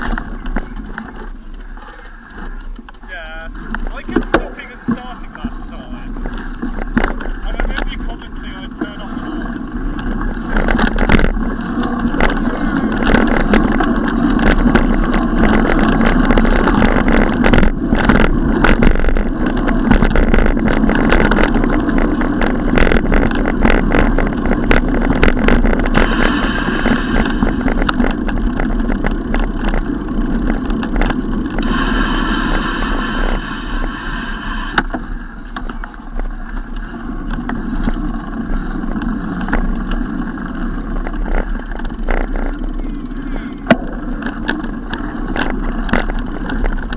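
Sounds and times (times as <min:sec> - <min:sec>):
bicycle clicks and rattles: 0:00.0 - 0:46.9
road noise: 0:00.0 - 0:46.9
wind on microphone: 0:00.0 - 0:46.9.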